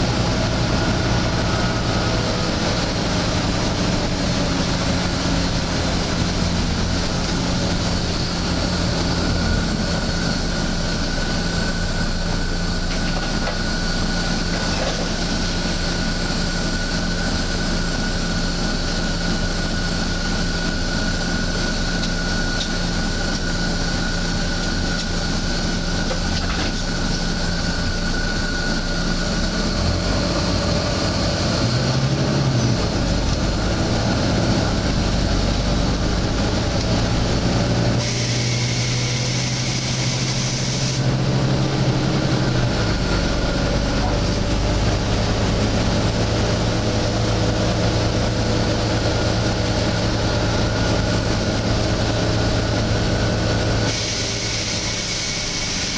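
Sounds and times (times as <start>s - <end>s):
bus diesel engine running: 0.0s - 55.9s
road noise: 0.0s - 55.9s.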